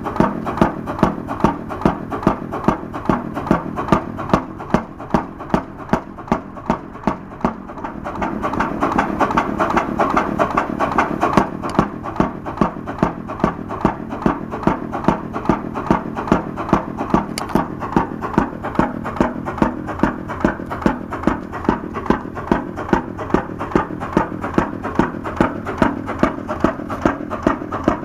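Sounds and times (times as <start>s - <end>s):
engine knocking clatter: 0.0s - 28.0s
stationary engine running slowly: 0.0s - 28.0s.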